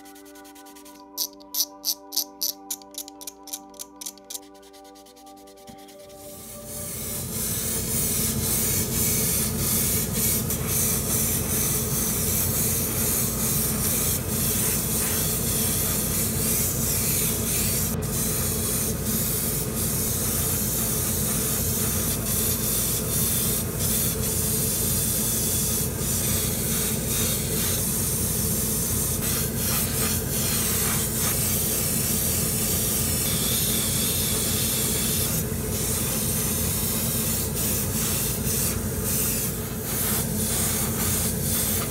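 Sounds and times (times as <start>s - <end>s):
airbrush spraying hiss: 5.0s - 41.9s.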